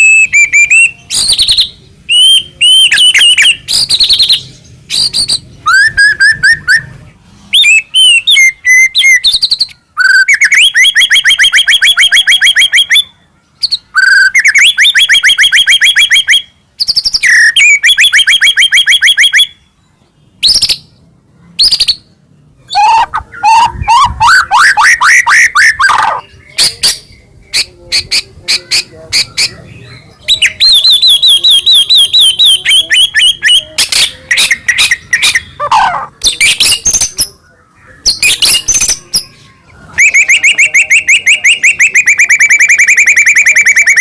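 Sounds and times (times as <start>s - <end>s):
bird singing whistled notes: 0.0s - 21.0s, 21.6s - 44.0s.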